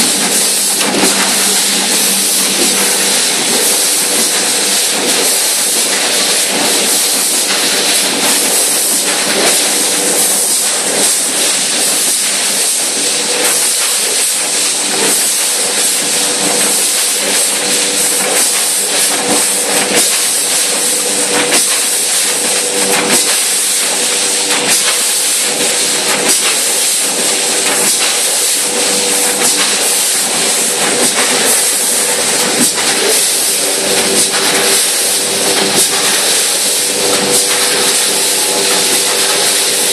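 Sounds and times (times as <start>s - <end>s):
bagging machine hissing and humming: 0.0s - 39.9s.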